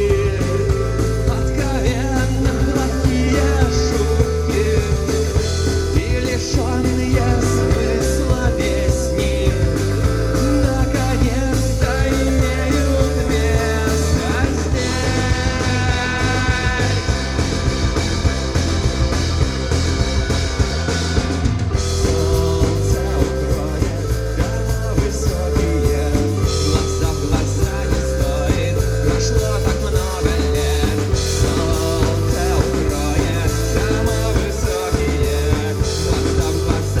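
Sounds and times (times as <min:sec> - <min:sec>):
psychedelic rock band playing live: 0:00.0 - 0:37.0.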